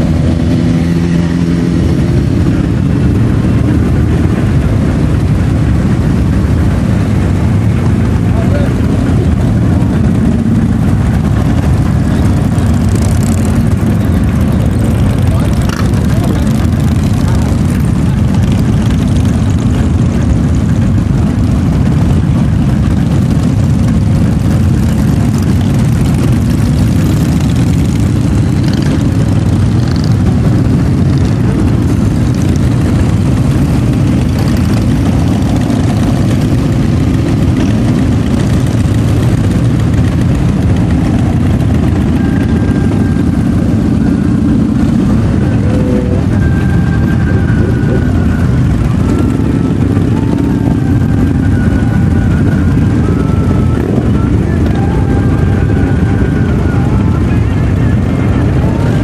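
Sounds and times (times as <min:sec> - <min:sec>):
motorcycle engines droning: 0:00.0 - 0:59.0.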